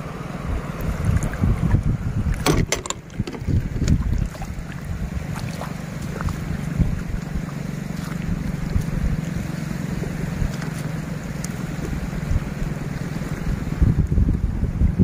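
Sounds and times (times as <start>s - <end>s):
wind buffeting microphone: 0.3s - 15.0s.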